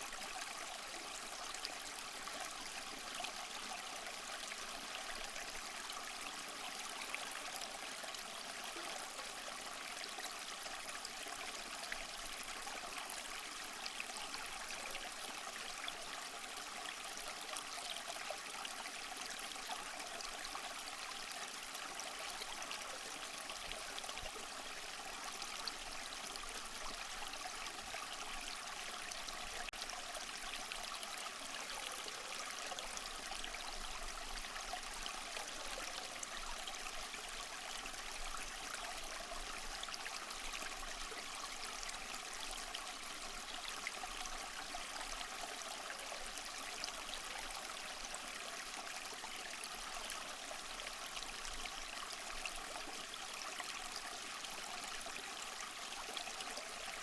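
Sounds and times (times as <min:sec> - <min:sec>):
small waterfall splashing over rocks: 0:00.0 - 0:57.0.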